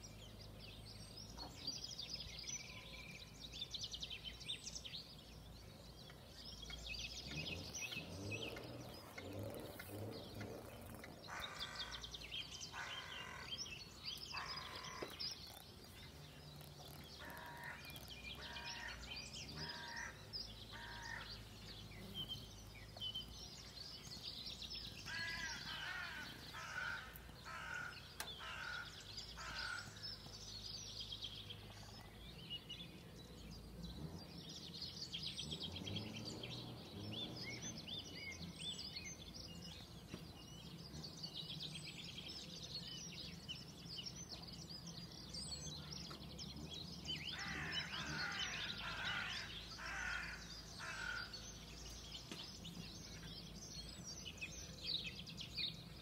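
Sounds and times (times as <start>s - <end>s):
birds singing and calling: 0.0s - 56.0s.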